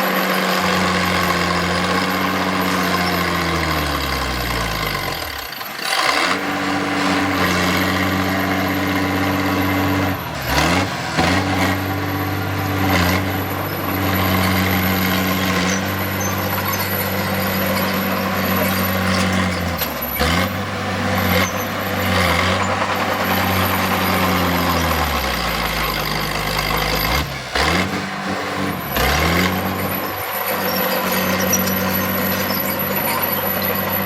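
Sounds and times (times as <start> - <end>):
heavy diesel engine under load: 0.0 - 34.0.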